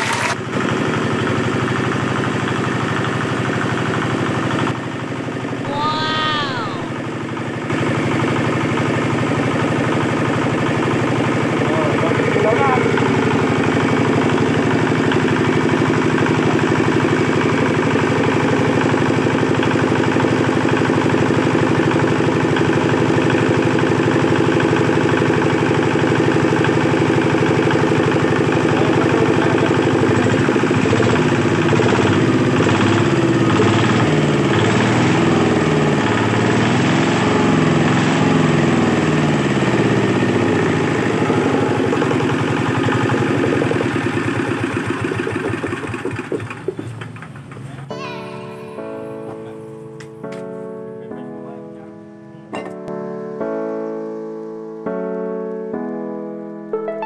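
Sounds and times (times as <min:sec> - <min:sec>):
diesel engine idling and revving: 0:00.0 - 0:05.7, 0:06.8 - 0:47.9.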